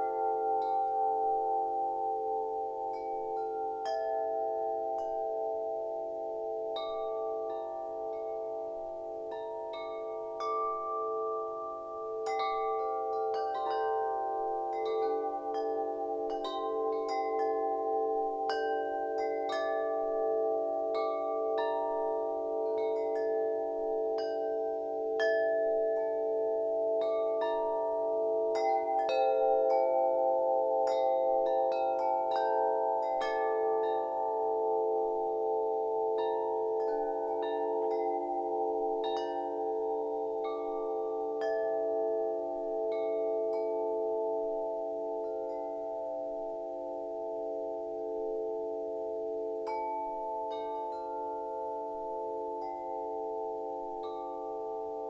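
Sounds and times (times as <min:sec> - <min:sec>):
wind chimes ringing: 0:00.0 - 0:55.0.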